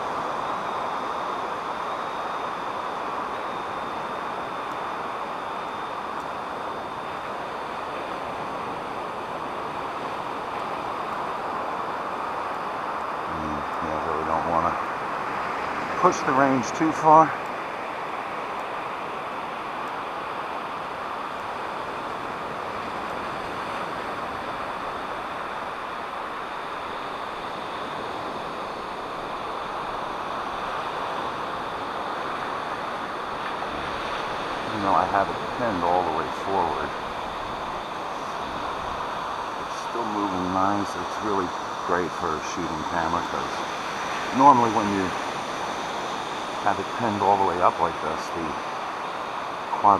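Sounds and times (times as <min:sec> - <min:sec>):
wind: 0:00.0 - 0:49.9
surf: 0:06.0 - 0:49.9.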